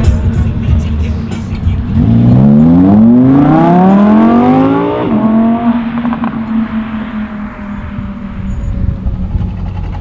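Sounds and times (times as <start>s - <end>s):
sports car engine accelerating: 0.0s - 10.0s.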